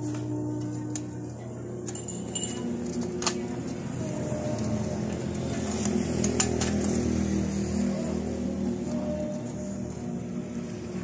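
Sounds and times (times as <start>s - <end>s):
low drone: 0.0s - 11.0s.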